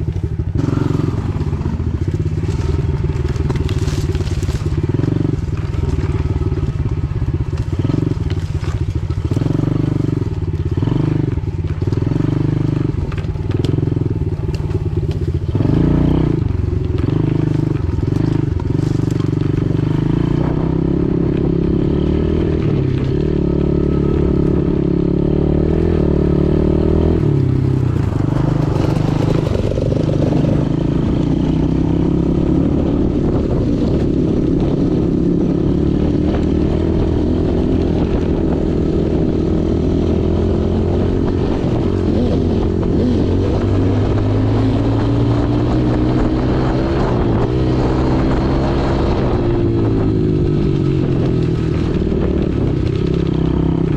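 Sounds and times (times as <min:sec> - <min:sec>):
pit bike engine revving: 0:00.0 - 0:53.9.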